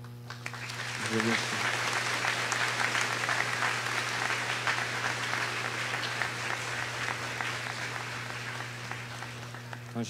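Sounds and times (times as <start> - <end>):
crowd clapping: 0.0 - 10.0
low electrical hum: 0.0 - 10.0.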